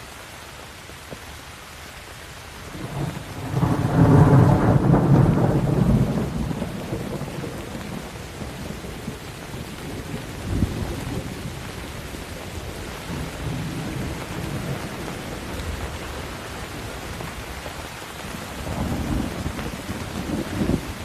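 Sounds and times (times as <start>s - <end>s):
steady rain falling: 0.0s - 21.0s
thunder rumbling: 2.7s - 21.0s.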